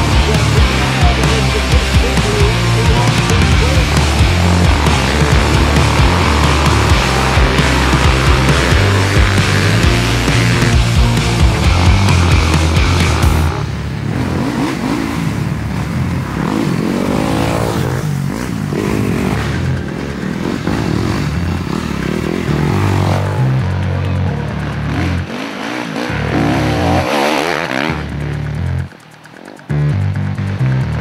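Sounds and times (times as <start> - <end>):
dirt bike engines revving: 0.0 - 31.0
heavy rock music: 0.0 - 31.0.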